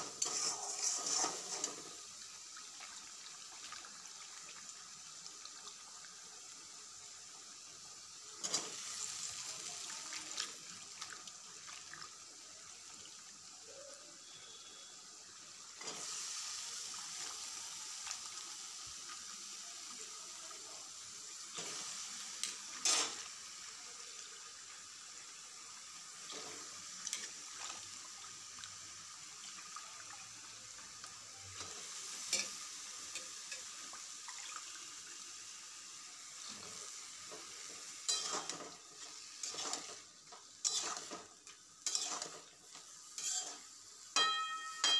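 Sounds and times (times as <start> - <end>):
food sizzling in a wok: 0.0 - 44.9.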